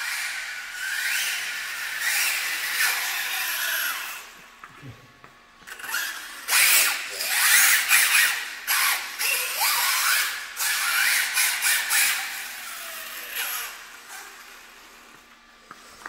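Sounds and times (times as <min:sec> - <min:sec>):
toy car motor whining: 0:00.0 - 0:04.4, 0:05.7 - 0:15.2.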